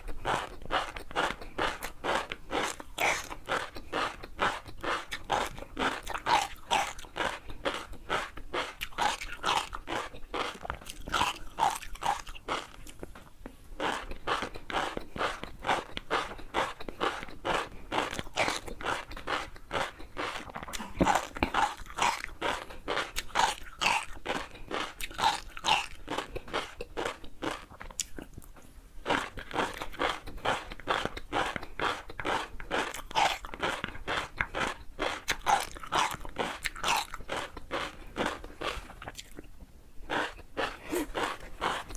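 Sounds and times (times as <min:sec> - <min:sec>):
chewing crunchy food: 0:00.0 - 0:41.9.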